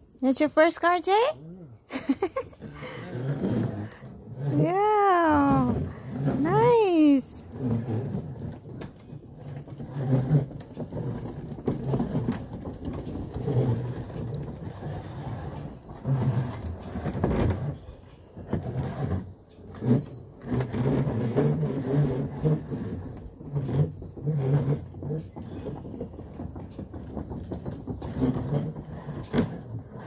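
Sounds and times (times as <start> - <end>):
plastic wheels rumbling on wooden boards: 2.1 - 30.0.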